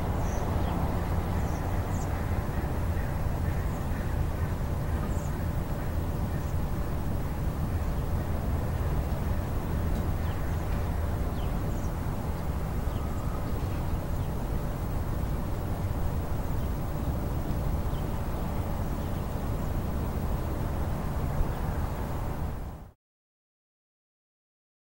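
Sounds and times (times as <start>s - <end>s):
low wind rumble: 0.0s - 22.9s.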